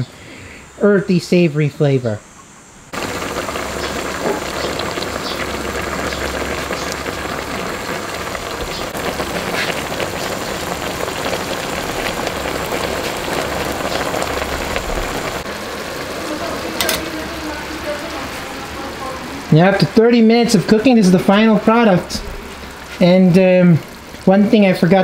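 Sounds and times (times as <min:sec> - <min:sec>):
pot boiling with bubbling hiss: 0:02.9 - 0:25.0.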